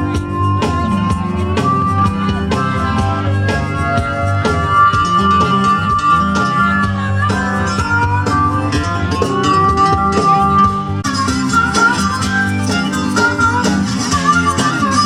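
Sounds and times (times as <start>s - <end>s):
band music with bending lead: 0.0s - 15.0s.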